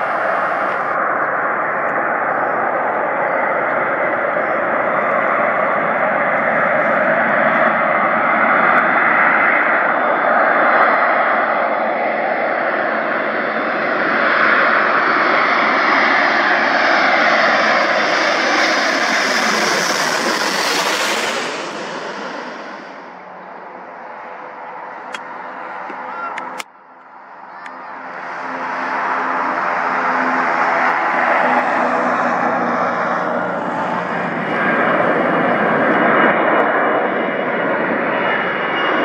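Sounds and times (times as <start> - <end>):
airplane engines passing: 0.0 - 39.0.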